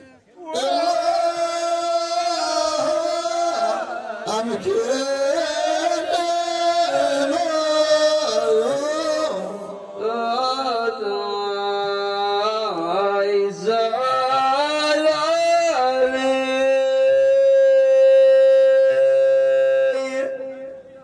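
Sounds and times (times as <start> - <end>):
men singing long held notes: 0.4 - 20.9.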